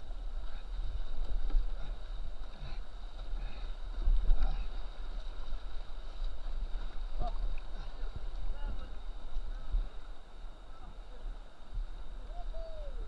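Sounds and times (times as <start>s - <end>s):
paddle strokes: 0.0s - 13.0s
whitewater rushing and splashing: 0.0s - 13.0s.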